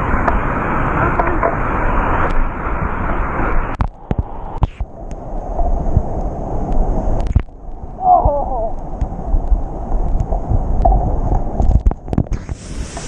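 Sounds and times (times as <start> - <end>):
whitewater rushing: 0.0 - 9.9, 12.3 - 13.0.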